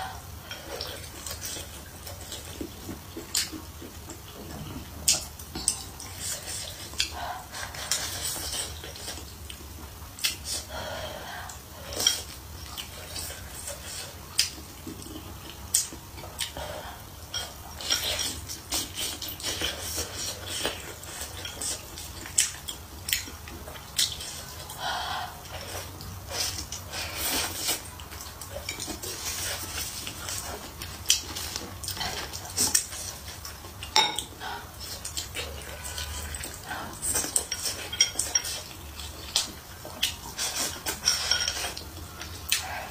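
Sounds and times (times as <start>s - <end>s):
chewing and slurping: 0.0s - 42.9s.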